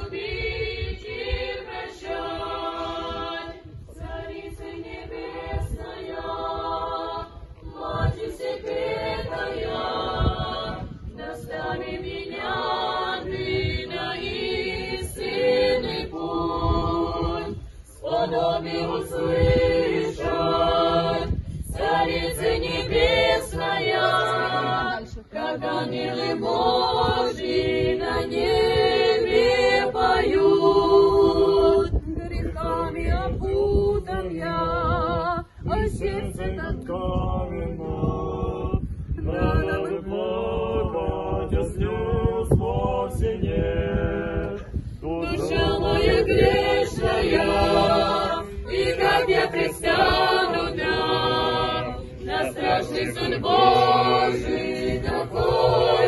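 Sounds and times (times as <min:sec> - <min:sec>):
group singing unaccompanied chant: 0:00.0 - 0:56.0.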